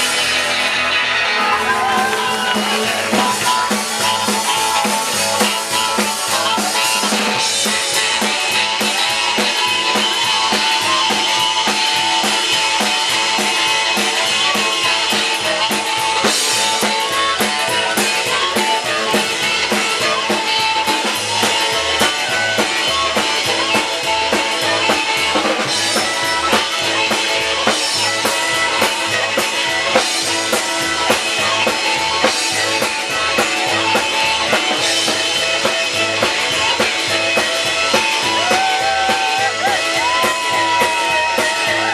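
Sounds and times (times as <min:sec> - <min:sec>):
drum kit beat: 0:00.0 - 0:41.9
rock and roll band playing: 0:00.0 - 0:41.9.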